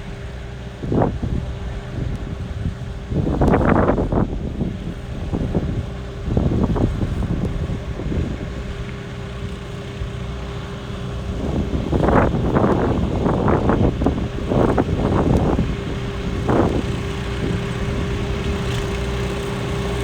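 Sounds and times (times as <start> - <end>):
tractor diesel engine running: 0.0 - 20.0
wind buffeting microphone: 0.0 - 20.0.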